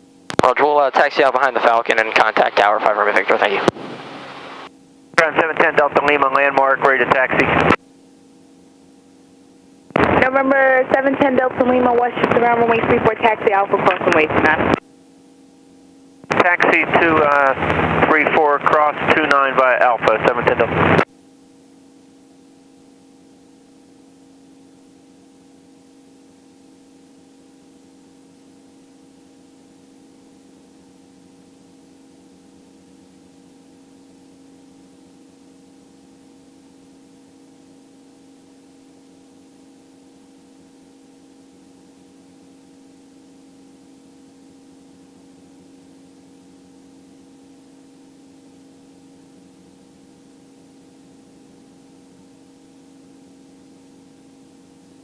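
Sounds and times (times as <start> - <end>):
electrical hum with tones: 0.0 - 55.0.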